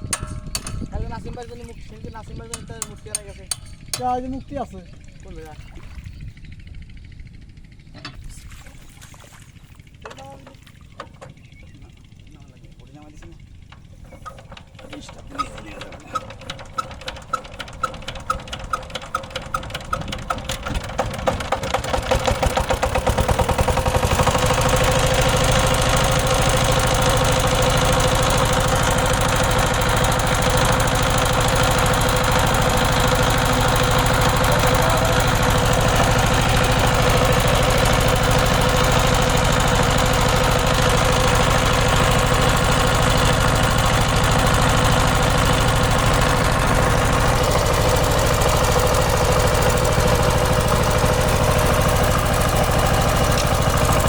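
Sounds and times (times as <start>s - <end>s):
power tiller engine starting: 0.0s - 4.6s, 11.0s - 54.0s.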